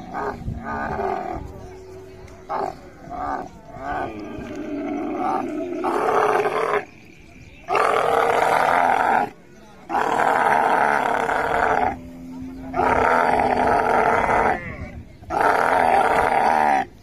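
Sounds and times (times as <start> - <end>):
camel harsh calls: 0.0 - 7.0, 7.6 - 17.0.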